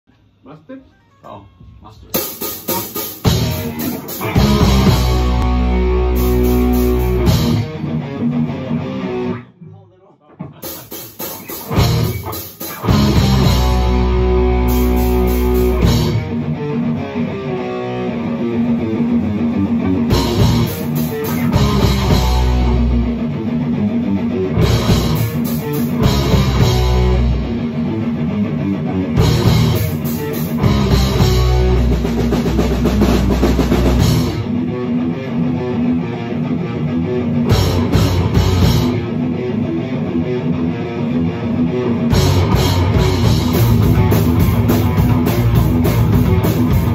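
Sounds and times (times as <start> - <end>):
heavy metal music: 2.1 - 9.5, 10.6 - 46.9.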